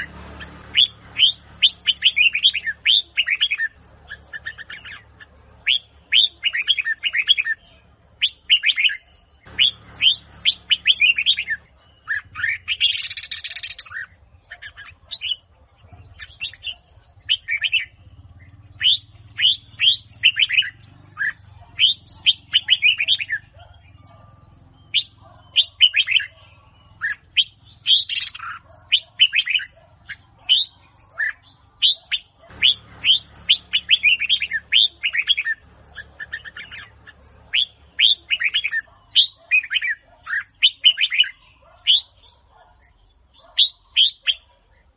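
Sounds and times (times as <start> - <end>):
bulbul singing chirps and whistles: 0.0 - 44.9.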